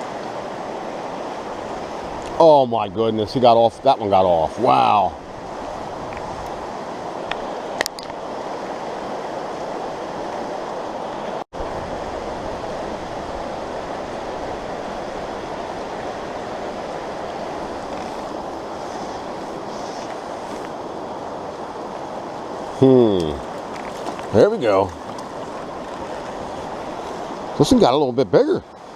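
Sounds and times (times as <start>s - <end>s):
fast-flowing stream rushing: 0.0s - 28.9s.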